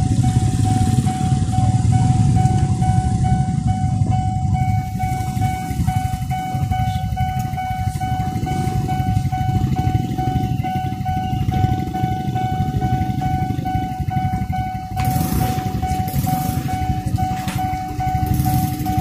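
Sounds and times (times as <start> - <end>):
car and motorcycle engines idling: 0.0 - 19.0
level-crossing warning bell: 0.0 - 19.0.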